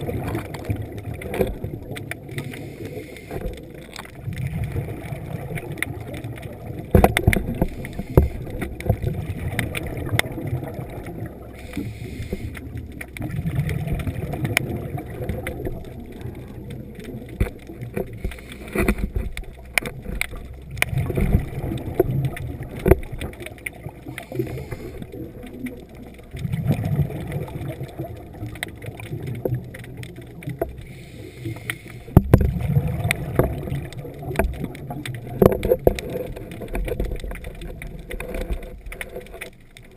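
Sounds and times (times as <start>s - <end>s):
clicks and crackles: 0.0s - 39.9s
regulator bubbles rumbling: 0.0s - 39.9s.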